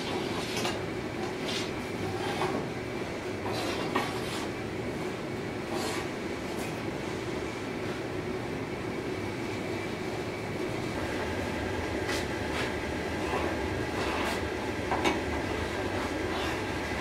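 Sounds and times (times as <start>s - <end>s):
gas forge burner rushing: 0.0s - 17.0s.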